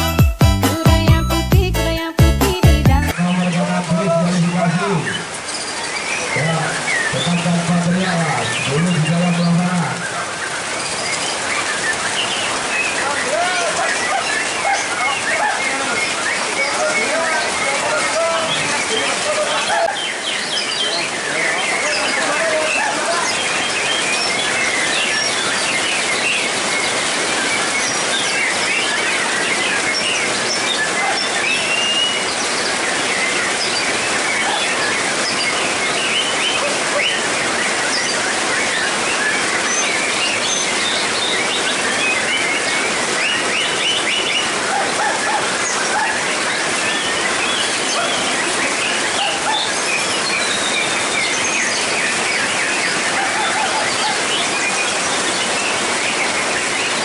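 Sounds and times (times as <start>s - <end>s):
heavy rain on metal roof: 3.1s - 57.0s
birds chirping and whistling: 4.3s - 57.0s.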